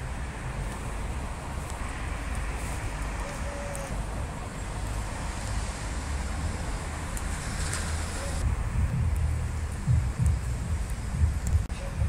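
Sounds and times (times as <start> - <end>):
distant road traffic: 0.0 - 12.0
wind buffeting microphone: 0.0 - 12.0.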